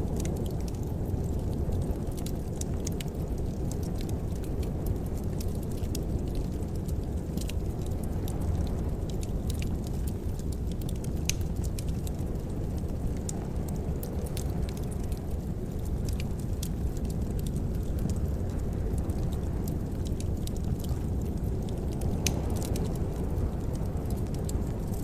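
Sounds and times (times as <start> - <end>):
fire crackling and popping: 0.0 - 25.0
low roar of fire: 0.0 - 25.0.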